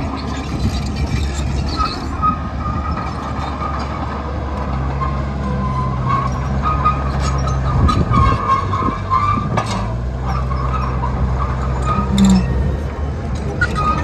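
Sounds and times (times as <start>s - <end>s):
bulldozer diesel engine: 0.0s - 14.0s
metal tracks clanking: 0.0s - 14.0s
tracks squealing: 0.0s - 14.0s.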